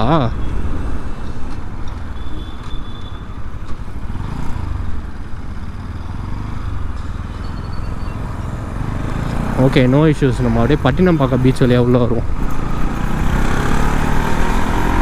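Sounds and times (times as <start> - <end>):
motorbike engine: 0.0 - 15.0
road noise: 0.0 - 15.0.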